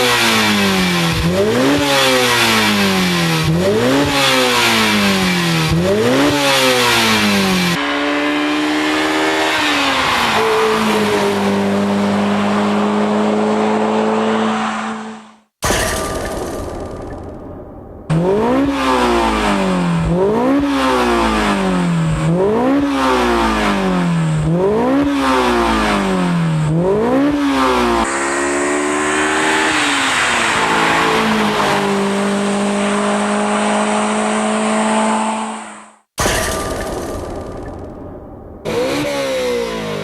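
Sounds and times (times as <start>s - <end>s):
car engine revving: 0.0s - 15.4s, 16.4s - 36.0s, 37.0s - 40.0s.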